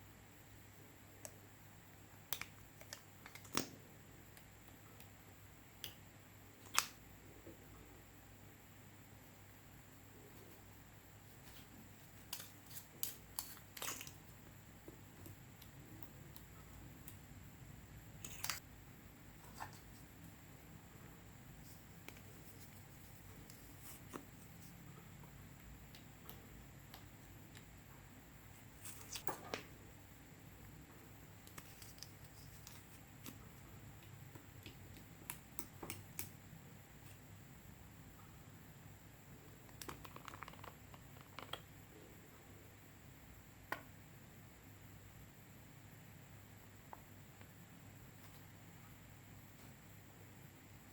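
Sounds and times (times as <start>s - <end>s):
quiet hiss: 0.0s - 50.9s.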